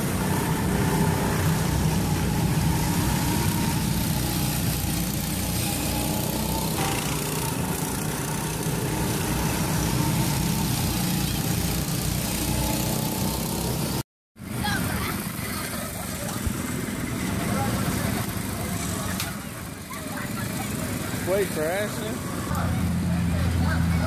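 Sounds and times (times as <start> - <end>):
go-kart engines running: 0.0 - 24.0.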